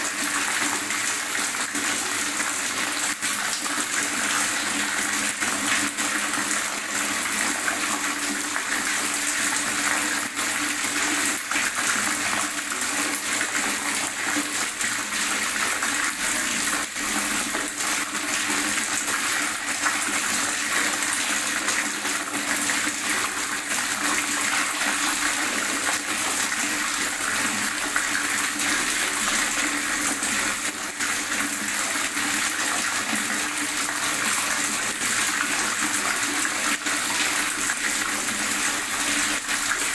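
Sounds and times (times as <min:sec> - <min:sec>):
water gurgling and splashing: 0:00.0 - 0:39.9.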